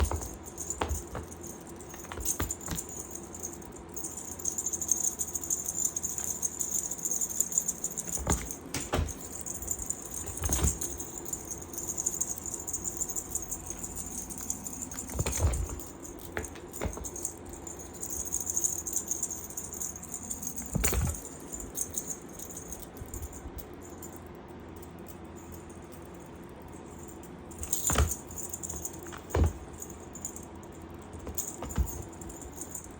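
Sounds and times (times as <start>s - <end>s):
cat toy jingling and rattling: 0.0s - 32.9s.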